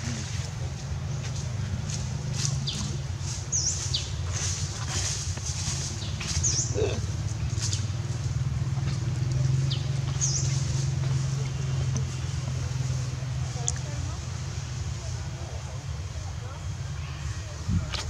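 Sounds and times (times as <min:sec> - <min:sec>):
low motor hum: 0:00.0 - 0:16.2.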